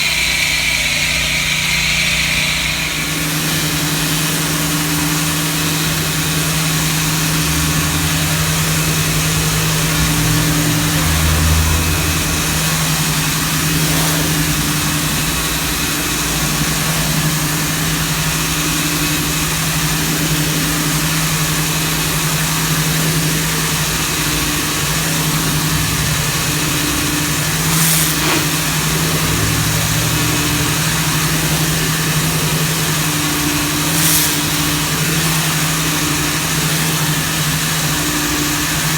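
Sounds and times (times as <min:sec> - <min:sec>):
pressure washer engine drone: 0:00.0 - 0:38.9
water spray hissing on concrete: 0:00.0 - 0:38.9.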